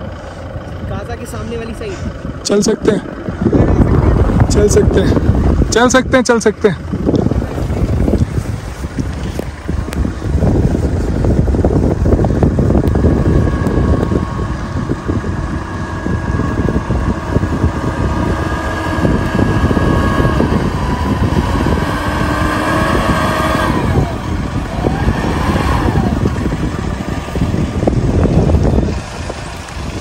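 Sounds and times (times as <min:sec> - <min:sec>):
diesel engine under load: 0:00.0 - 0:30.0
wind buffeting microphone: 0:00.0 - 0:30.0.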